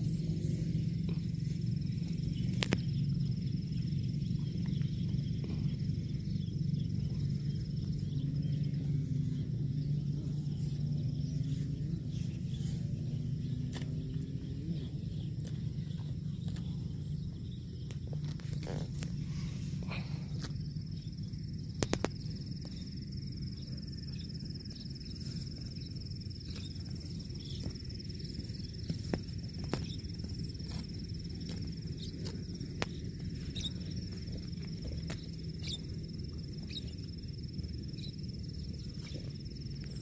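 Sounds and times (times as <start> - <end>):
cow chewing grass: 0.0 - 23.8, 24.6 - 40.0
insects droning: 0.0 - 40.0
low outdoor rumble: 0.0 - 40.0.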